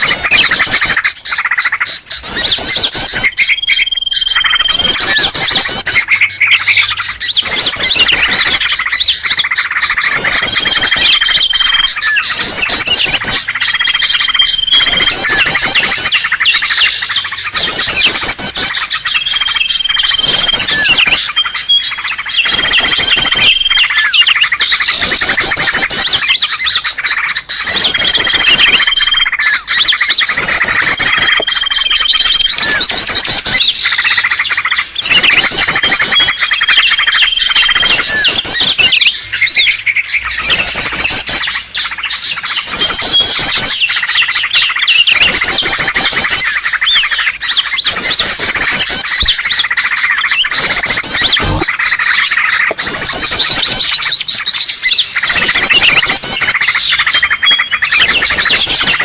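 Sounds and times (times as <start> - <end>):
bird whistles: 0.0 - 59.0
songbirds chirping and trilling: 0.0 - 59.0.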